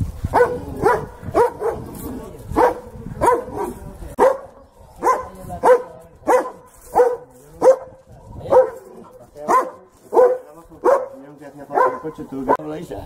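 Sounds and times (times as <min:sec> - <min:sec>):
dog barking: 0:00.3 - 0:01.9, 0:02.5 - 0:12.7.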